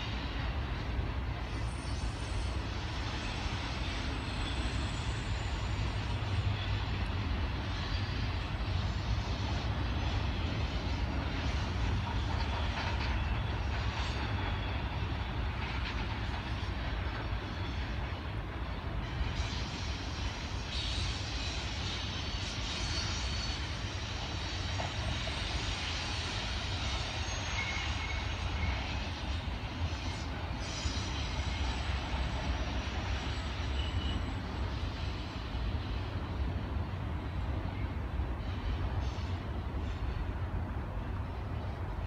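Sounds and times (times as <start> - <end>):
steel wheels rolling on rails: 0.0 - 37.9.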